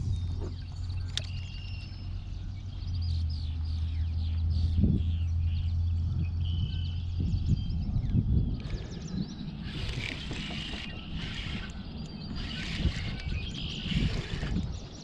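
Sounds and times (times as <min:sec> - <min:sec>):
birds chirping and calling: 0:00.0 - 0:15.0
steady low rumble: 0:00.0 - 0:15.0.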